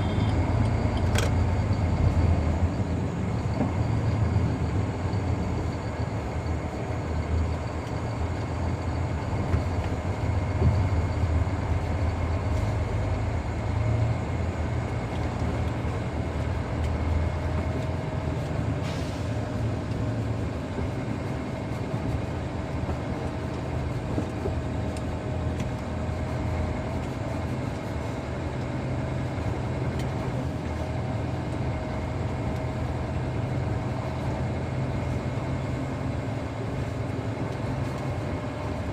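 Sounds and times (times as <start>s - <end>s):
diesel engine rumbling: 0.0s - 38.9s
faint steady whine: 0.0s - 38.9s.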